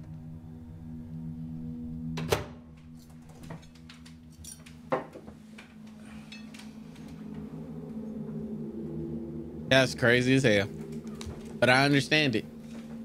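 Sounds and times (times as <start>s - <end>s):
low steady drone: 0.0s - 13.0s.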